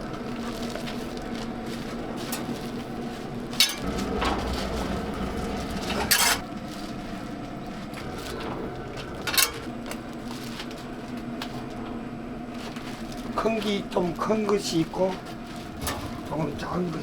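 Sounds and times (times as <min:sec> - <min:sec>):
rumbling movement and clatter: 0:00.0 - 0:17.0
steady low hum: 0:00.0 - 0:17.0.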